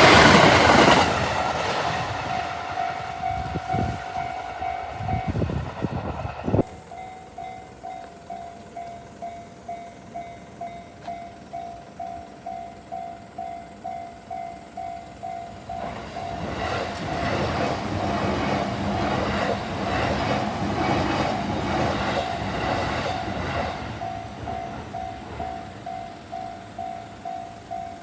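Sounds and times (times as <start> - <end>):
railroad crossing bell ringing: 0.0 - 28.0
train rumble and wheel clatter: 0.0 - 28.0.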